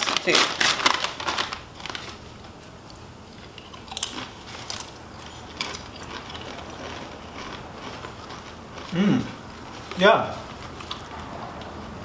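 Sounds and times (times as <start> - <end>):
crunching tortilla chips: 0.0 - 11.9.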